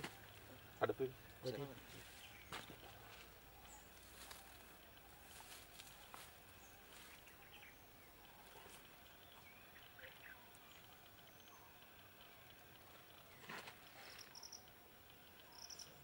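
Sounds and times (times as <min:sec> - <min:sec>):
faint bird chirps: 0:00.0 - 0:16.0
open-air ambience: 0:00.0 - 0:16.0.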